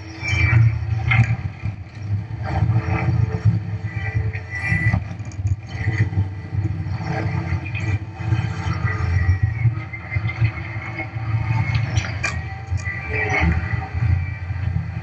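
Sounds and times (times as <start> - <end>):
machine engine rumbling: 0.0 - 13.0.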